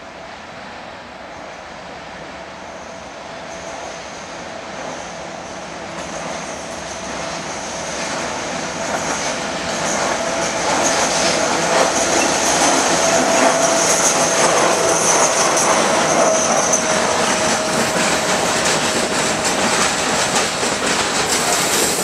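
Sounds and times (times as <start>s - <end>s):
freight train approaching: 0.0s - 22.0s.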